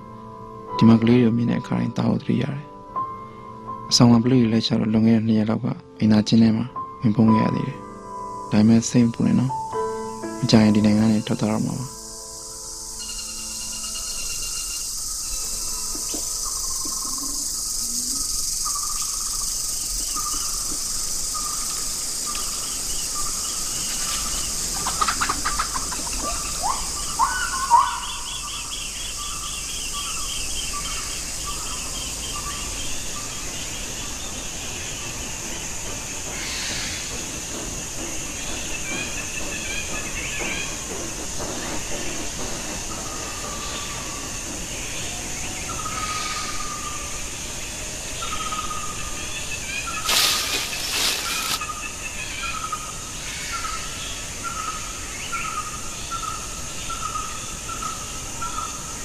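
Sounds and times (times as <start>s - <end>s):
insects hissing: 6.8s - 59.0s
birds calling: 9.9s - 59.0s.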